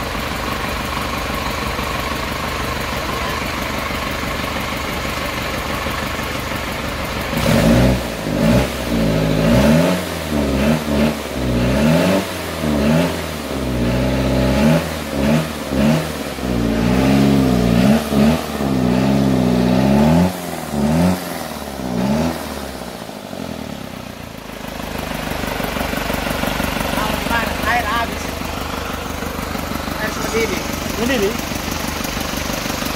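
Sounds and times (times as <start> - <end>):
diesel engine idling and revving: 0.0 - 32.9.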